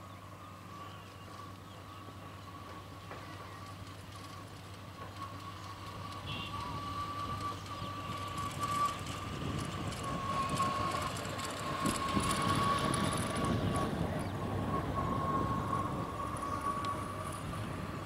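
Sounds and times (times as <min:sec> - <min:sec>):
diesel train rumble: 0:00.0 - 0:18.0
thin high whine: 0:00.0 - 0:18.0.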